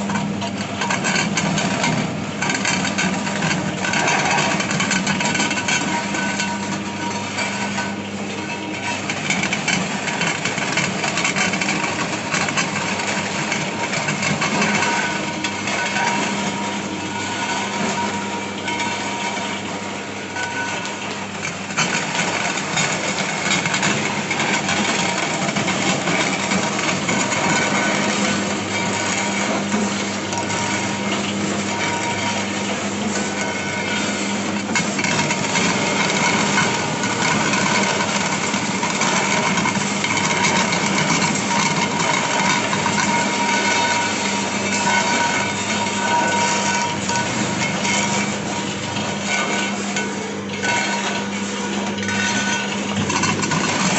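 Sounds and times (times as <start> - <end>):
clay roller crusher humming: 0.0 - 53.9.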